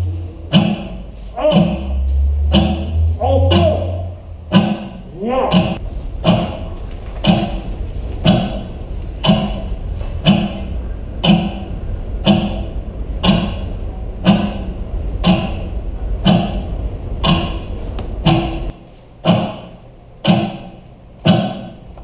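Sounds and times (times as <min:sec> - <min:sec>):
low hum: 0:00.0 - 0:22.0
steady ringing knock: 0:00.5 - 0:03.9, 0:04.5 - 0:21.8.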